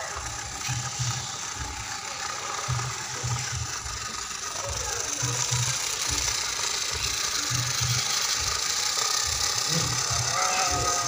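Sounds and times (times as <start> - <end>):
chassis rattling: 0.0 - 11.0
toy truck motor whining: 0.0 - 11.0.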